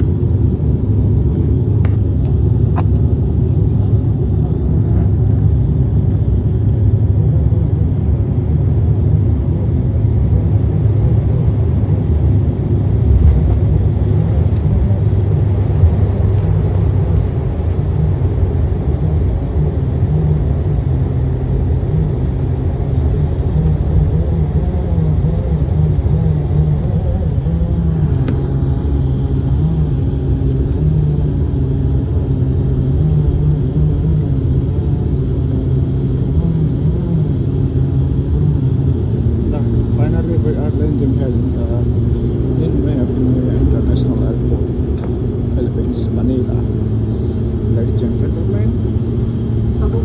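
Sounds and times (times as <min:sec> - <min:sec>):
vehicle engine rumble: 0:00.0 - 0:50.0.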